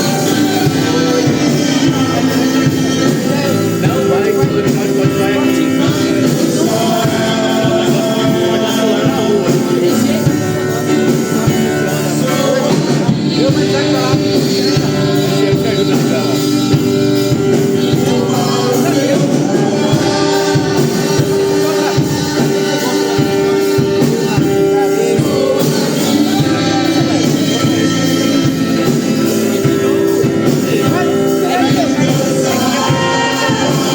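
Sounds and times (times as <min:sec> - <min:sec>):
instrumental accompaniment: 0:00.0 - 0:33.9
worship singing: 0:00.0 - 0:33.9.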